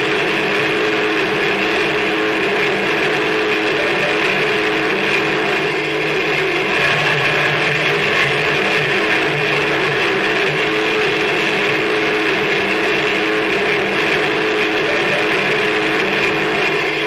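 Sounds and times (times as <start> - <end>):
harsh noise wall: 0.0 - 17.0
low droning tones: 0.0 - 17.0.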